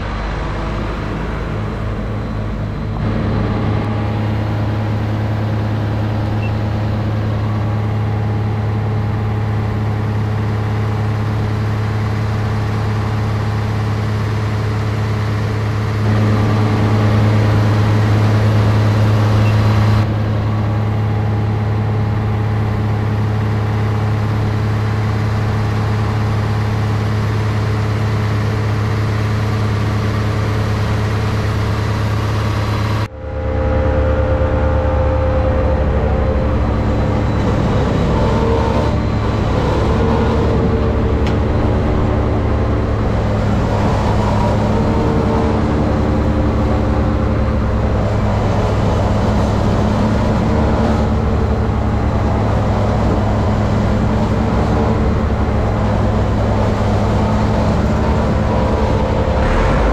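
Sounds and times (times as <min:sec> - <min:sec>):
farm machinery running: 0:00.0 - 0:59.9.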